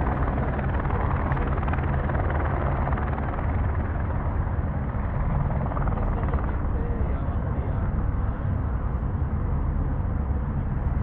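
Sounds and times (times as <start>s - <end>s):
helicopter rotor chop and engine: 0.0s - 11.0s.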